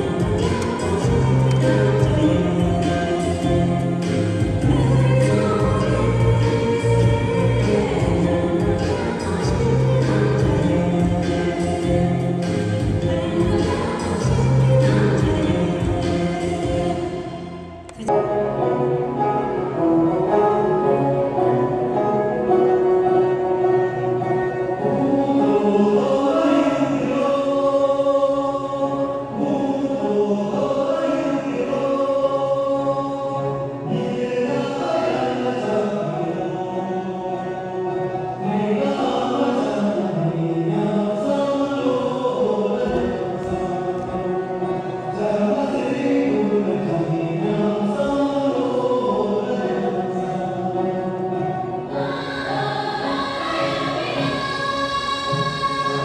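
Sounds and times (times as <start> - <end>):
group of voices singing: 0.0 - 56.0.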